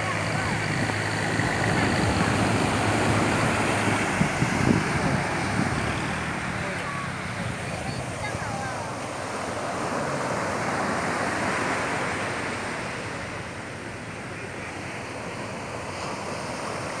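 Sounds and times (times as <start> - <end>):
surf washing up a sandy beach: 0.0 - 17.0.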